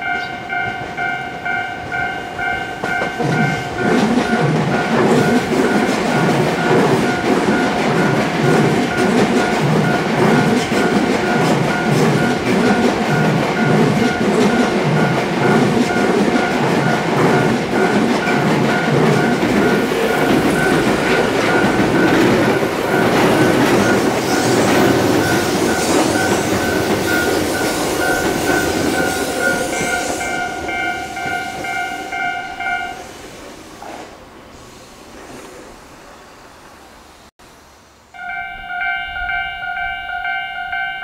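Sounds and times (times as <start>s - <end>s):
level crossing warning bell: 0.0s - 33.0s, 38.2s - 41.0s
train wheels rumbling over rails: 0.0s - 37.3s.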